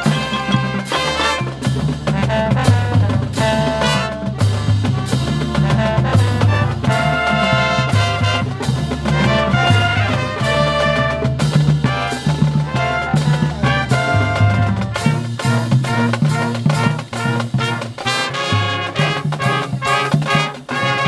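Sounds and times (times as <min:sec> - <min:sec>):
brass melody: 0:00.0 - 0:21.0
steady drum beat: 0:00.0 - 0:21.0.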